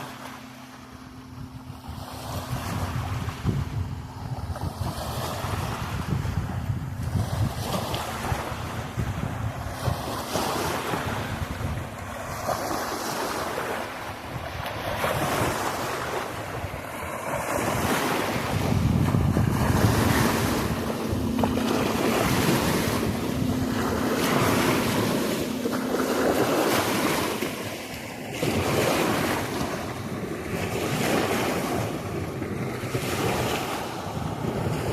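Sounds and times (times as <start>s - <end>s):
waves washing against shore: 0.0s - 34.9s
wind buffeting microphone: 0.9s - 34.9s.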